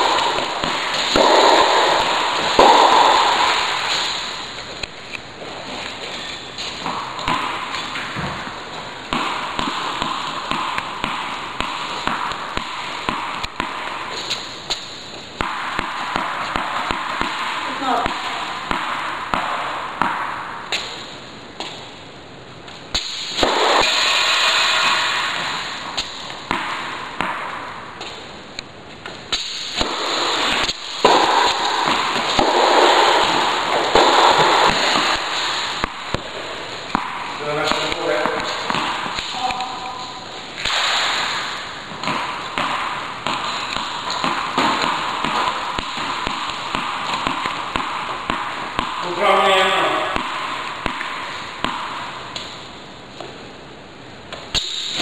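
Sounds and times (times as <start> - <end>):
racket striking ball: 0.0 - 6.0, 6.6 - 21.9, 22.9 - 28.3, 29.2 - 53.4, 54.3 - 55.0
steady hiss: 0.0 - 22.0, 22.8 - 55.0
tennis balls bouncing: 0.0 - 22.0, 22.6 - 53.6.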